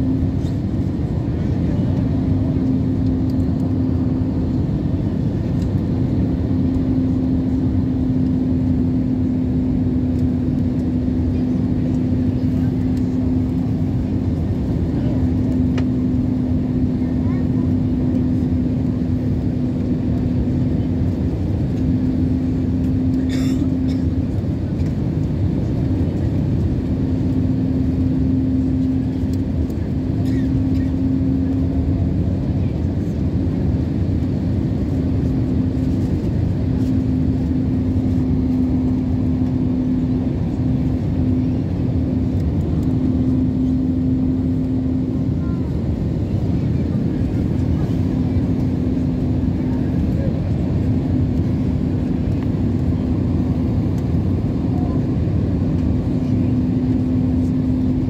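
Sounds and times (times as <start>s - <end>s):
airliner cabin engine rush: 0.0s - 58.0s.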